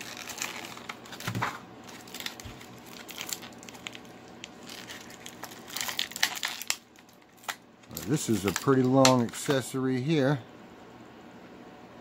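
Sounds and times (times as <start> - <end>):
plastic packaging crinkling: 0.0 - 10.1.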